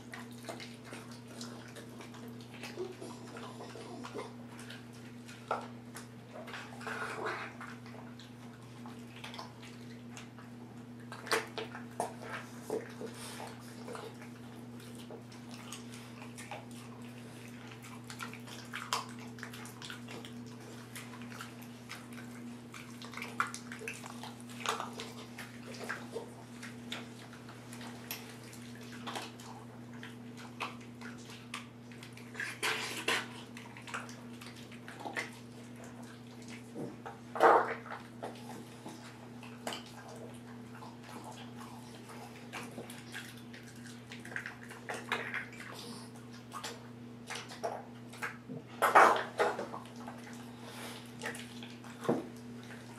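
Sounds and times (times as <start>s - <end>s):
puppy lapping water: 0.0s - 52.9s.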